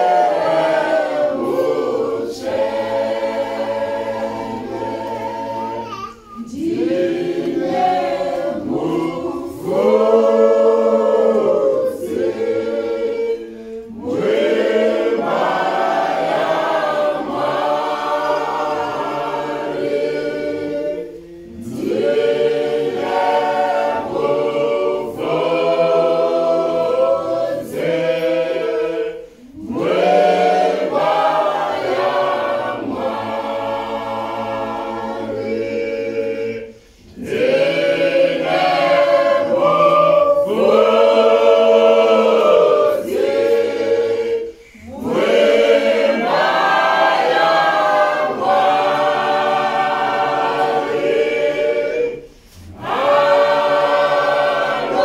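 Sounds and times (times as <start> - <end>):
choir singing a hymn a cappella: 0.0 - 55.0.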